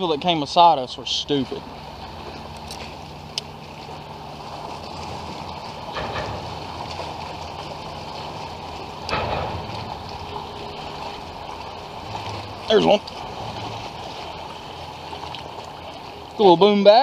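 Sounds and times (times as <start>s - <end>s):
steady low hum: 0.0s - 16.8s
water noise: 0.0s - 17.0s
wind: 0.0s - 17.0s.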